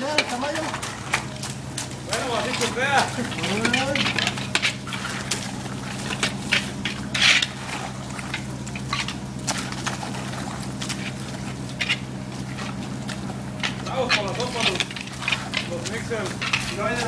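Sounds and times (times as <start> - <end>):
liquid splashing and pouring: 0.0 - 17.0
low machine hum: 0.0 - 17.0.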